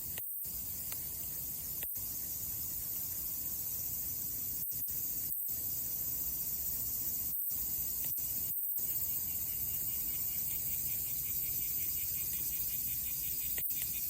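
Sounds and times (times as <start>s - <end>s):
crickets chirping: 0.0s - 14.0s
steady high hiss: 0.0s - 14.0s.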